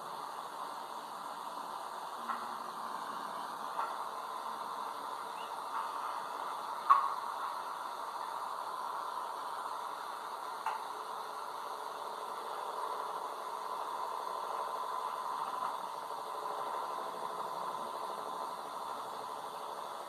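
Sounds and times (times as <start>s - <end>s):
ship engine hum: 0.0s - 20.0s.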